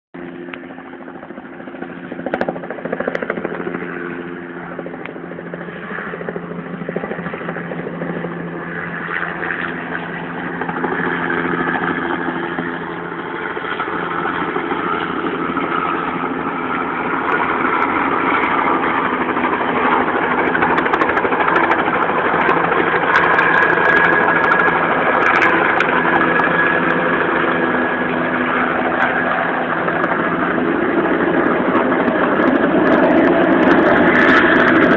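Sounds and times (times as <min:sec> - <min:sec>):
helicopter engine running: 0:00.2 - 0:34.9.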